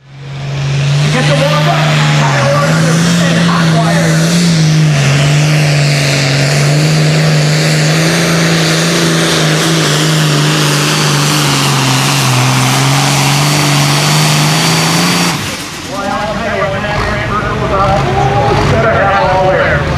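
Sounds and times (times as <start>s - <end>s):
diesel tractor engine at full throttle: 0.0s - 19.9s.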